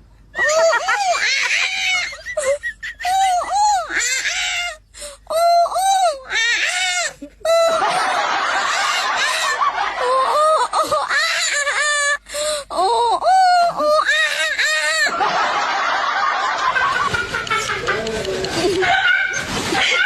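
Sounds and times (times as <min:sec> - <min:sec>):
high-pitched laugh-like vocal sounds: 0:00.4 - 0:04.8, 0:05.6 - 0:20.0.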